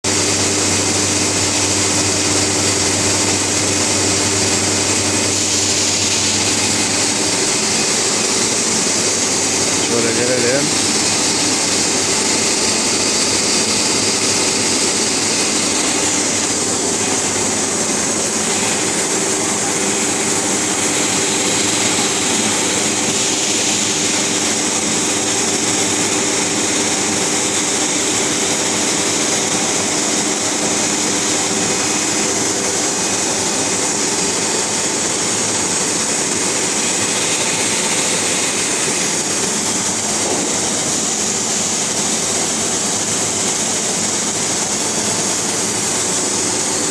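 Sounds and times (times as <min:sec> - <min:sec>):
machine hum: 0:00.0 - 0:46.9.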